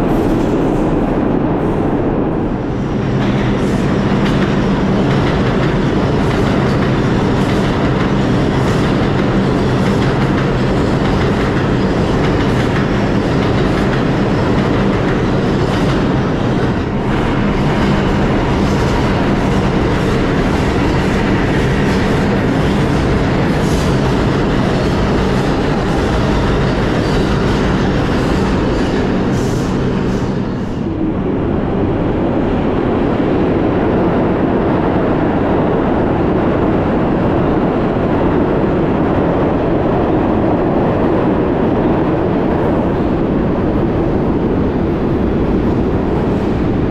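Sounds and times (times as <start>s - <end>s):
subway train rumble: 0.0s - 46.9s.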